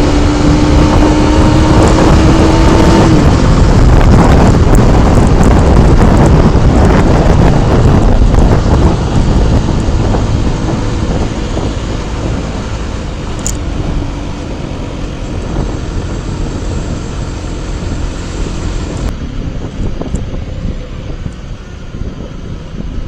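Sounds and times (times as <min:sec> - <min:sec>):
wind noise on microphone: 0:00.0 - 0:23.0.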